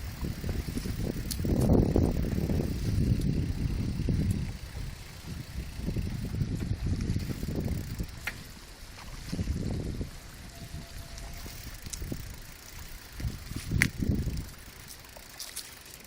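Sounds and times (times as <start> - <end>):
wind buffeting microphone: 0.0 - 14.9
bicycle clicks and rattles: 0.0 - 16.0.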